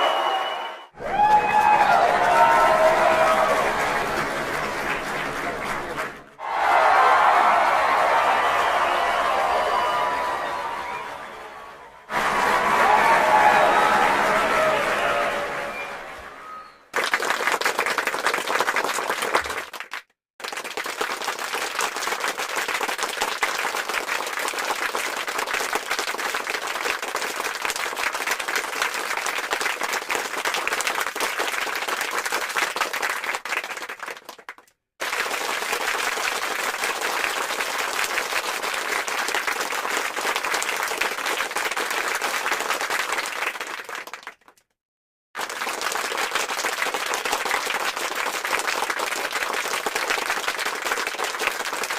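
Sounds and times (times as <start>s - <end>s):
crowd applause: 0.0s - 44.5s, 45.4s - 51.9s.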